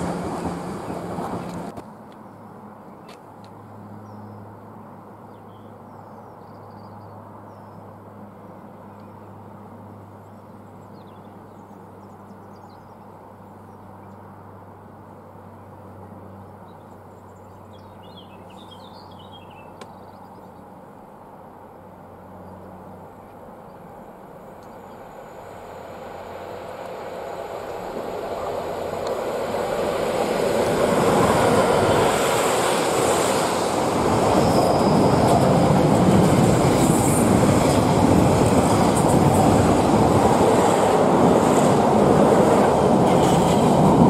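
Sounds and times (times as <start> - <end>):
distant locomotive engine drone: 0.0 - 44.0.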